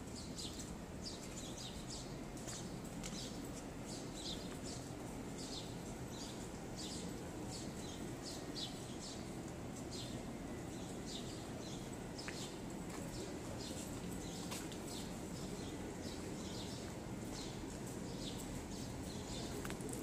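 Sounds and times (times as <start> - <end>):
low background hum: 0.0 - 20.0
small birds chirping: 0.0 - 20.0.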